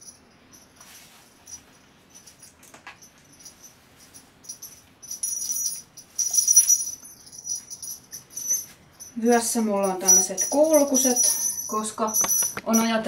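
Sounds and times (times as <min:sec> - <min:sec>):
small metal bells jingling: 0:00.0 - 0:13.0.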